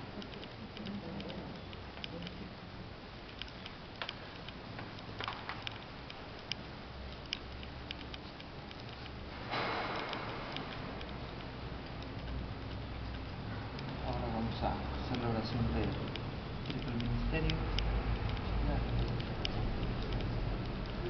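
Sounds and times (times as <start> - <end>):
small clicks and ticks: 0.0 - 21.0.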